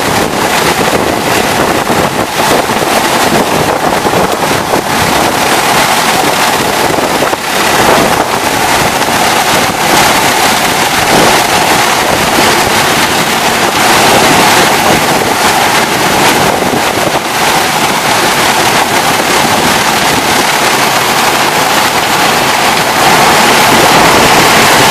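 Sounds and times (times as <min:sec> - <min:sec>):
cane machinery running: 0:00.0 - 0:24.9.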